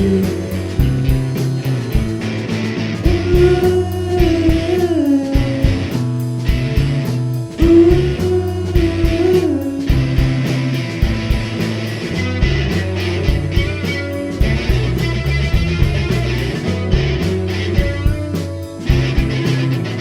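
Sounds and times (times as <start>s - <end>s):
drums beating: 0.0s - 20.0s
psychedelic rock band playing: 0.0s - 20.0s.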